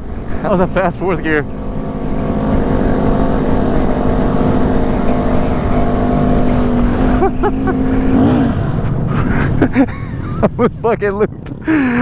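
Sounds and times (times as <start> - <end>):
motorcycle engine at speed: 0.0 - 12.0.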